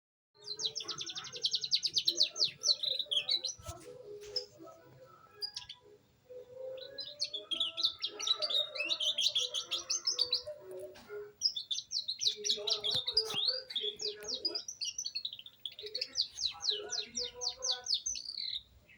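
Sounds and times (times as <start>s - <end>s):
canary singing: 0.4s - 18.9s.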